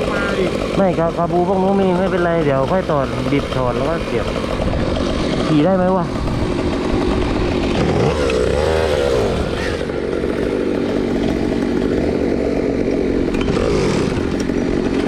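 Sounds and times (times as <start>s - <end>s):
motor scooter engine revving: 0.0s - 15.0s.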